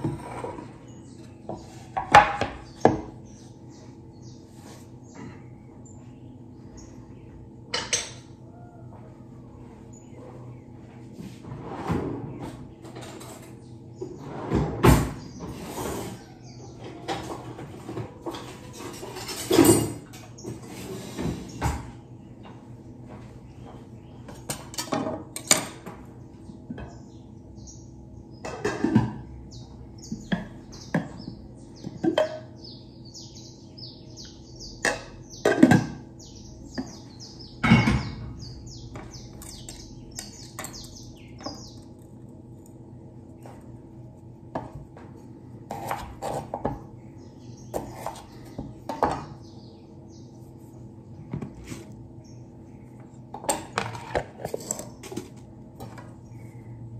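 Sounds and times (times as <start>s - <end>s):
small birds chirping: 0.0s - 11.2s, 12.2s - 14.4s, 15.0s - 24.7s, 26.0s - 56.9s
steady low hum: 0.0s - 56.9s.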